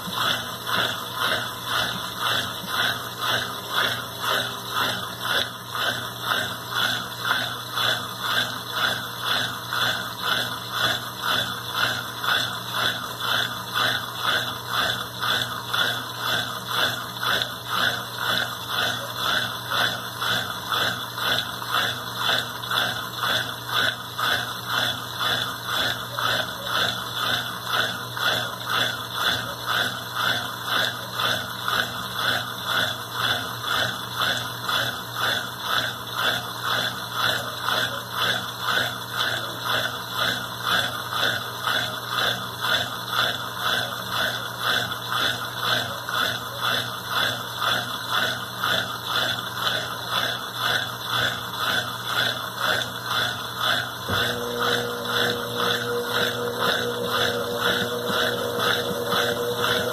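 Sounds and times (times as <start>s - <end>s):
washing machine water swishing: 0.0s - 59.9s.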